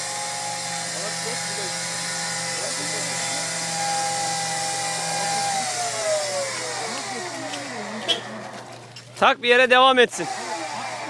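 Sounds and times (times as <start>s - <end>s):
engine revving: 0.0s - 8.9s, 10.1s - 11.0s.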